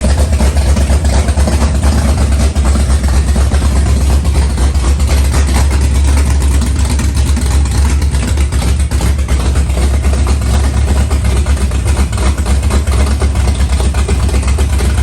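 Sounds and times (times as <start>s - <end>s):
large vehicle engine idling: 0.0s - 15.0s.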